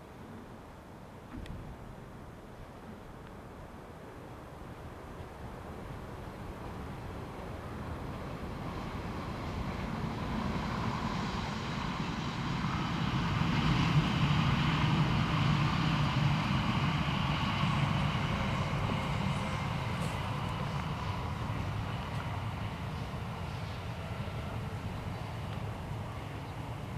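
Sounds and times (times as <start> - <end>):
train passing rumble: 0.0 - 26.9.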